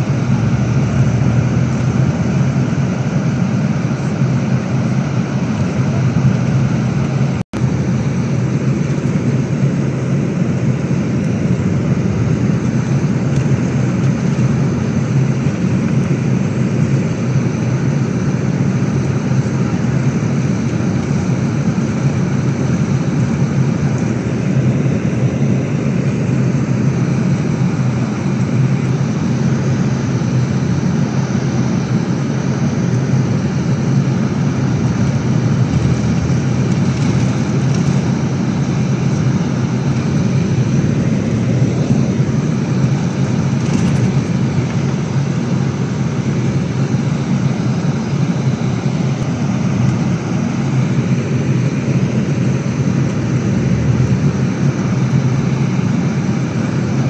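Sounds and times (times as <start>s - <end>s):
coach diesel engine droning: 0.0s - 57.0s.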